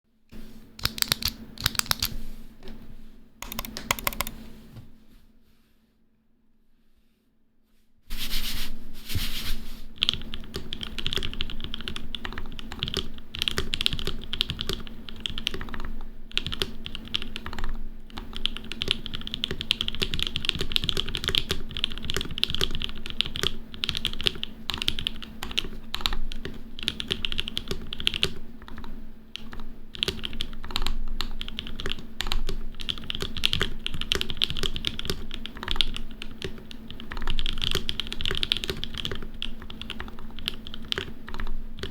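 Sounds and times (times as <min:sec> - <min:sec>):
fast typing on mechanical keyboard: 0:00.8 - 0:02.2, 0:03.4 - 0:04.4, 0:10.0 - 0:41.9.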